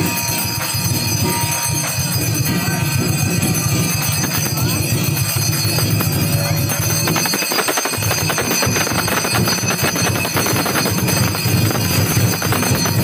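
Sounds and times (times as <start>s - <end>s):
loud ritual percussion: 0.0s - 13.0s
metal bell rung rapidly: 0.0s - 13.0s.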